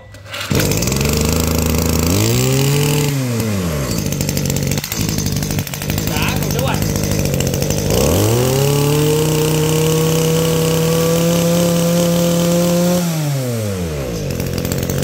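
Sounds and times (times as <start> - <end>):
brush cutter engine revving: 0.1 - 15.0.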